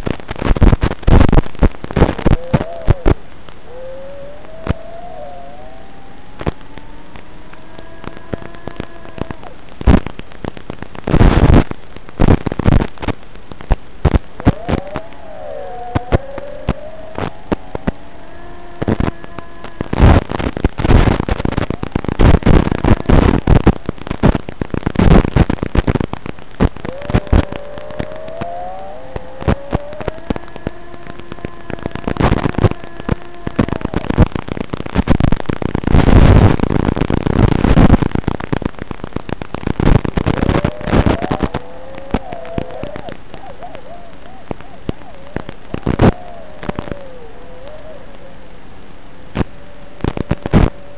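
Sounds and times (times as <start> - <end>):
crackling radio static: 0.0 - 50.9.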